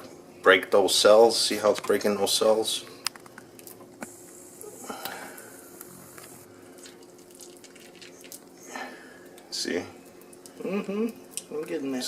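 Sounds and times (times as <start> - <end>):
wax sizzling and squishing: 1.4 - 12.0.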